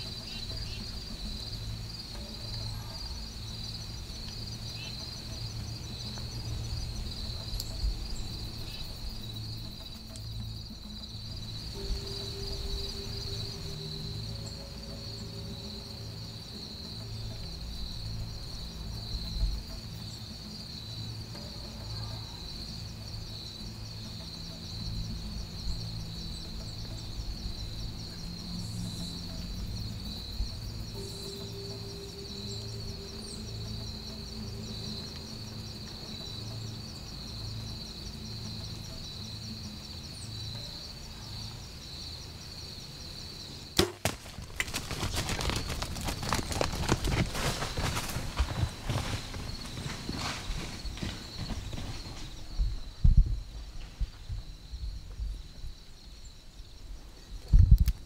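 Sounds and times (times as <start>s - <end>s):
insect chorus: 0.0s - 58.0s
quiet background music: 0.0s - 58.0s.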